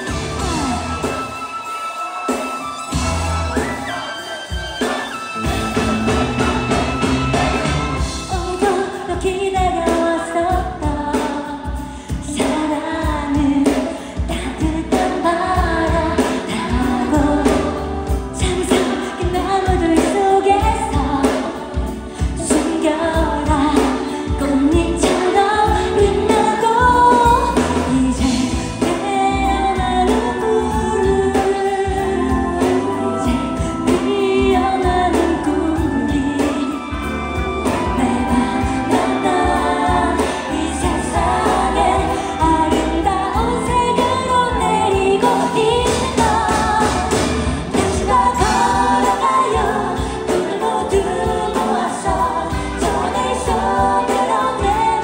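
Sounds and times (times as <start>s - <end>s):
band with heavy bass beat: 0.0s - 55.0s
woman singing into microphone: 8.1s - 55.0s.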